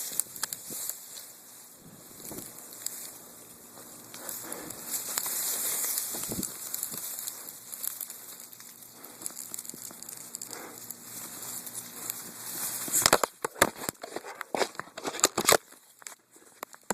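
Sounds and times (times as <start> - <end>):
rustling and crackling: 0.0 - 16.9.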